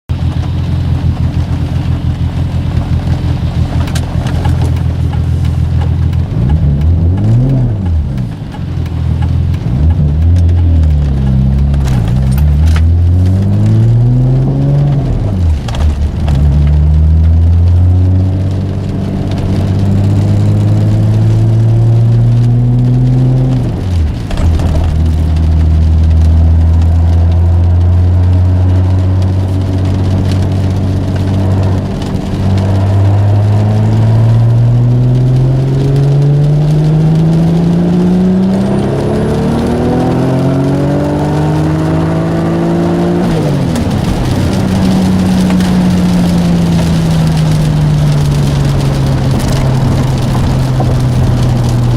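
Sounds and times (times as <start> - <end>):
car engine accelerating: 0.1 - 51.9.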